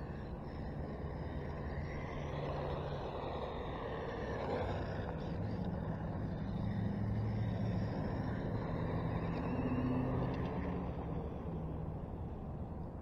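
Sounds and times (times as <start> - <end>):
toy car rumbling on asphalt: 0.0 - 13.0.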